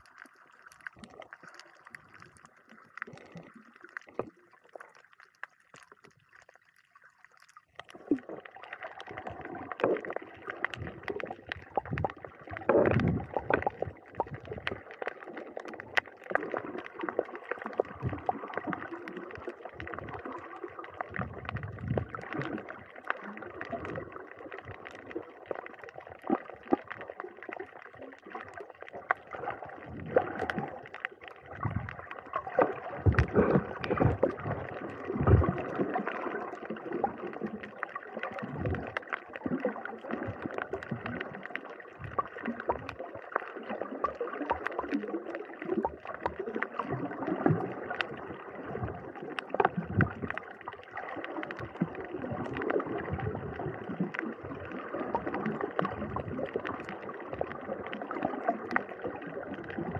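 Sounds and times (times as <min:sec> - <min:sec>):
muffled water gurgling and sloshing: 0:00.0 - 0:59.9.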